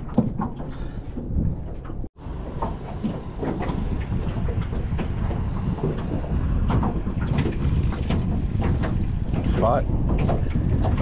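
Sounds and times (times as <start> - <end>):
water slapping boat hull: 0.0 - 11.0
wind buffeting microphone: 0.0 - 11.0.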